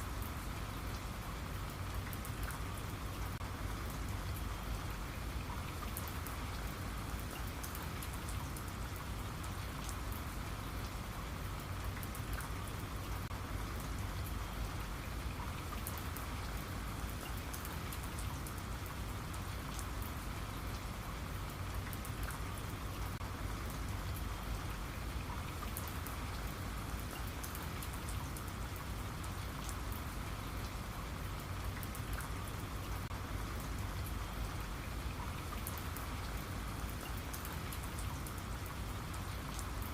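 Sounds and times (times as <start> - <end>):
low rain rumble: 0.0 - 39.9
steady rain patter: 0.0 - 39.9.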